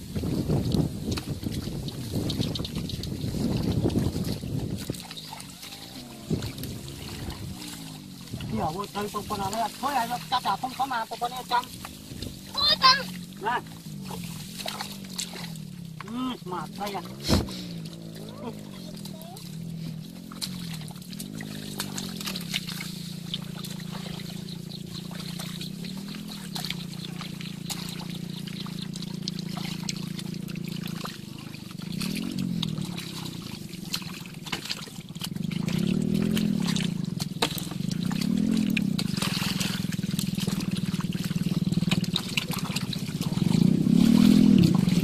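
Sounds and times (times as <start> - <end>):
low engine drone: 0.0 - 45.0
mud and water sloshing: 0.0 - 45.0.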